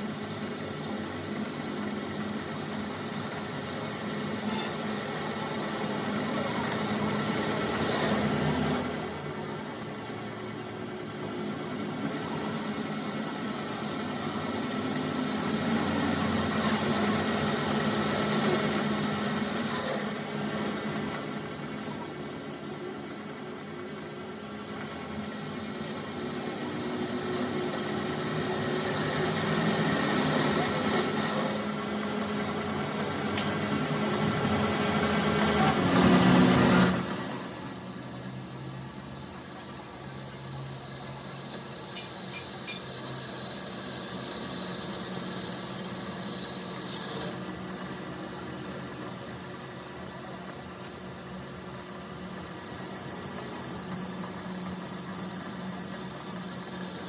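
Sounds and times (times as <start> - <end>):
high-pitched squeal: 0.0 - 57.0.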